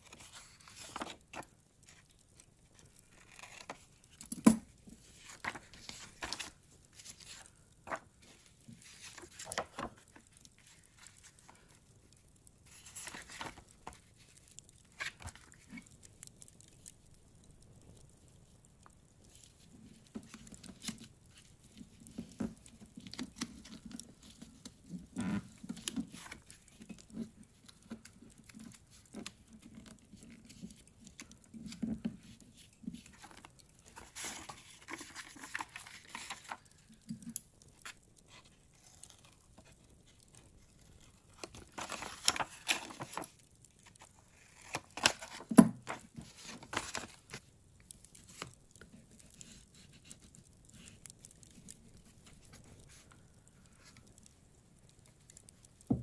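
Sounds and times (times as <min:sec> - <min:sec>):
paper rustling and crinkling: 0:00.0 - 0:16.9, 0:18.8 - 0:54.2.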